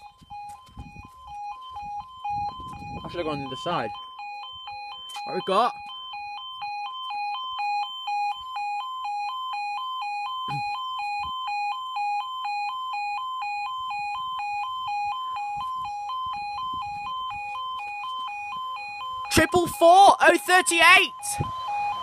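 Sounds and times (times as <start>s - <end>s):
two-tone level crossing alarm: 0.0s - 22.0s.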